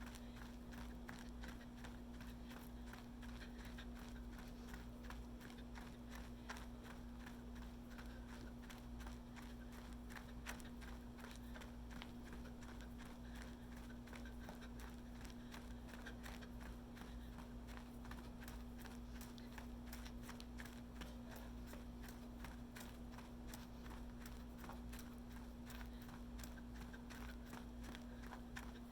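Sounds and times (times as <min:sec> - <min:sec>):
running footsteps: 0:00.0 - 0:28.9.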